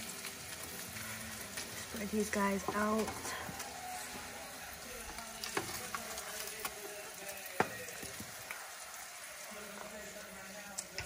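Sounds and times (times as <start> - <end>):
potatoes sizzling on a tray: 0.0 - 11.0.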